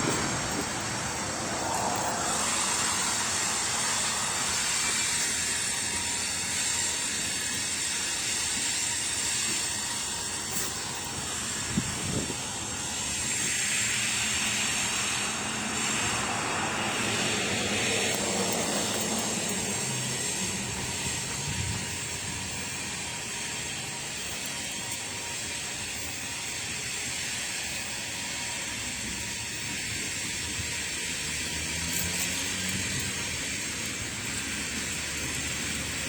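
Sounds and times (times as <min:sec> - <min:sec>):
rushing vehicle noise: 0:00.0 - 0:25.4, 0:28.4 - 0:36.0.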